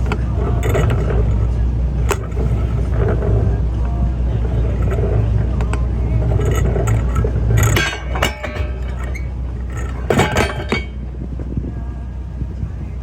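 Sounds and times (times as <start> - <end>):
metallic clinking and rattling: 0.0 - 11.6
boat engine low hum: 0.0 - 13.0.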